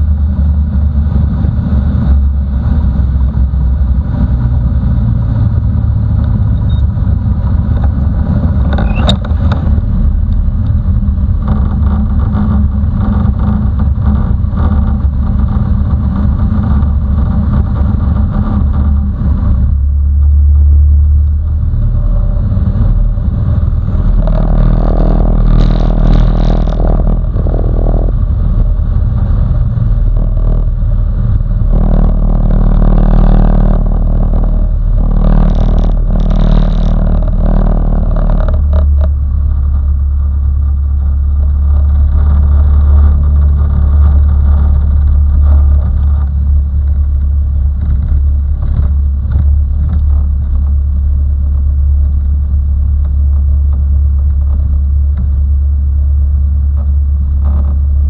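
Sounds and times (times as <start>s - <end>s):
clatter: 0.0s - 58.0s
propeller engine drone: 0.0s - 58.0s.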